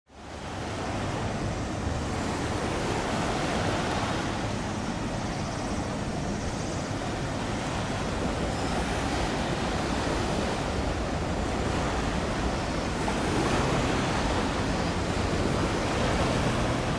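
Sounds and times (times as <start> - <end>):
sea water washing: 0.1 - 16.9
wind: 0.1 - 16.9
wind rumble on microphone: 0.1 - 16.9.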